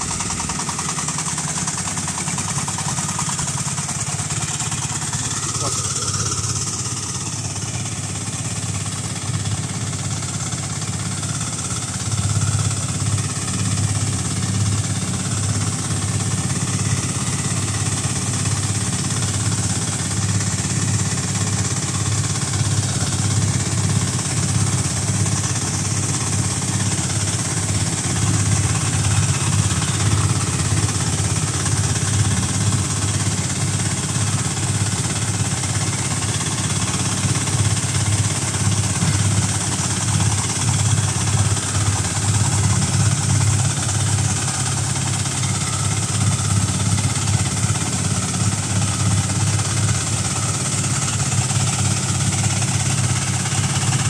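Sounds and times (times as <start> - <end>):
fan air rushing: 0.0 - 49.0
diesel engine running: 0.0 - 54.0.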